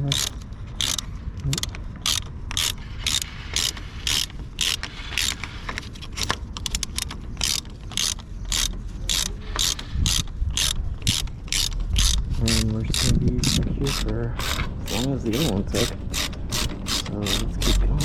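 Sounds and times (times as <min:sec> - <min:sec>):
hand ratchet clicking: 0:00.0 - 0:05.5, 0:06.1 - 0:18.0.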